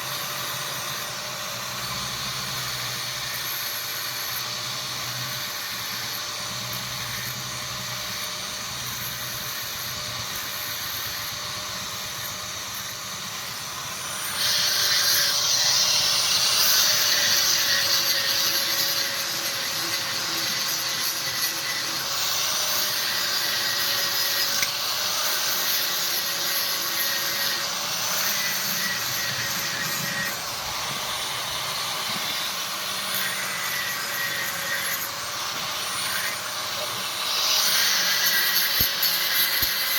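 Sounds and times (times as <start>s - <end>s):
power grinder grinding steel: 0.0s - 39.9s.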